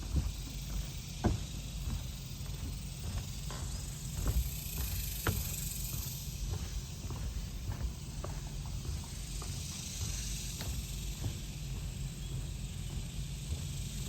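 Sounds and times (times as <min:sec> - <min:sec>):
footsteps in running shoes: 0:00.0 - 0:14.0
steady high hiss: 0:00.0 - 0:14.0.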